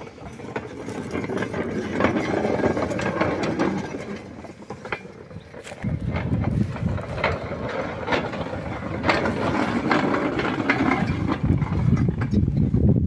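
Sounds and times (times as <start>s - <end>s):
wagon wheels rumbling on track: 0.0s - 13.0s
wheels clacking over rail joints: 0.0s - 13.0s.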